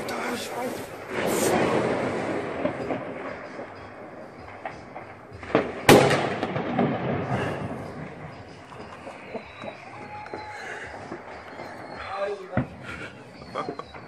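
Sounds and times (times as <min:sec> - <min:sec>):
firecracker bang: 0:00.2 - 0:13.1.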